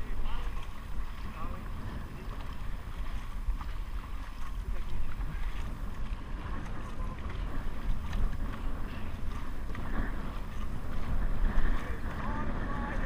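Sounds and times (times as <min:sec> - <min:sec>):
water splashing from paddles: 0:00.0 - 0:13.0
wind buffeting microphone: 0:00.0 - 0:13.0.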